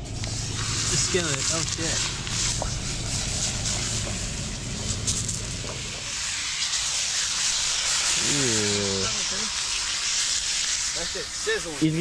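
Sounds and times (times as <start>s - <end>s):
steak sizzling in a frying pan: 0.2s - 12.0s.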